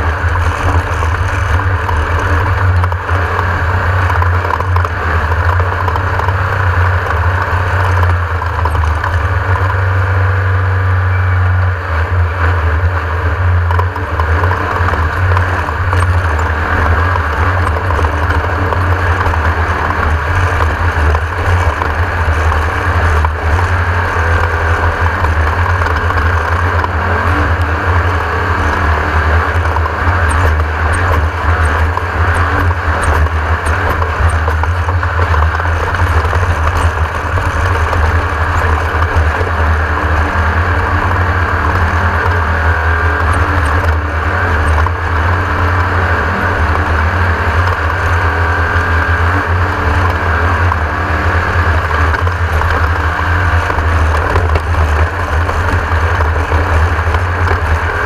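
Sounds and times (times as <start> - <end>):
buggy engine droning: 0.0 - 58.0.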